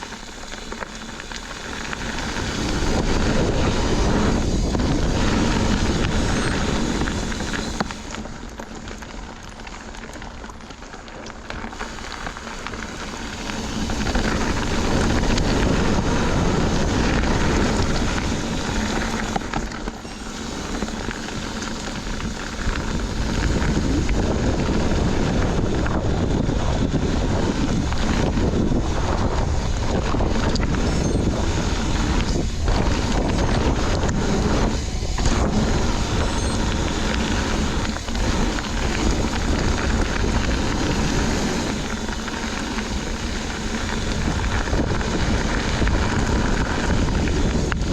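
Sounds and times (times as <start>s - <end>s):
wind on microphone: 0.0s - 9.1s, 11.6s - 47.9s
bike tyres crackling on dirt: 0.0s - 47.9s.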